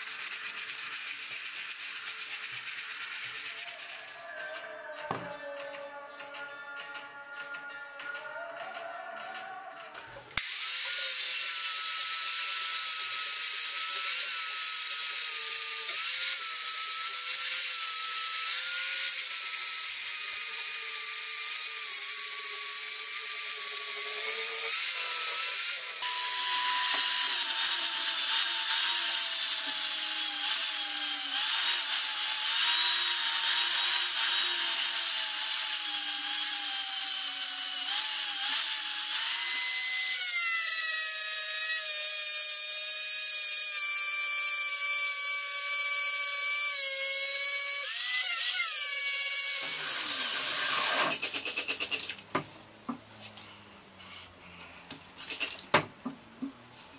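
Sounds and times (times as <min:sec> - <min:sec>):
angle grinder grinding steel: 0:00.0 - 0:52.0.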